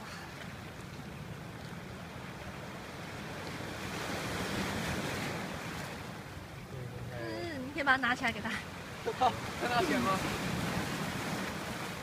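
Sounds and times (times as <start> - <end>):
sea waves on cobble beach: 0.0 - 12.0.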